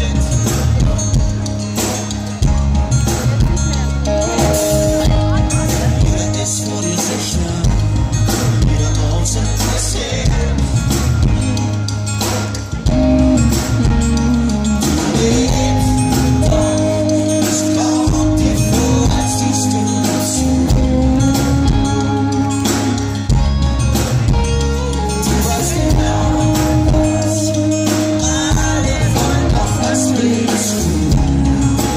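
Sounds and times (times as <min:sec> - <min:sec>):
man singing: 0:00.0 - 0:02.5, 0:03.5 - 0:12.2, 0:12.8 - 0:23.6, 0:24.8 - 0:31.9
acoustic guitar: 0:00.0 - 0:31.9
bass guitar: 0:00.0 - 0:31.9
drums: 0:00.0 - 0:31.9
electric guitar: 0:00.0 - 0:31.9.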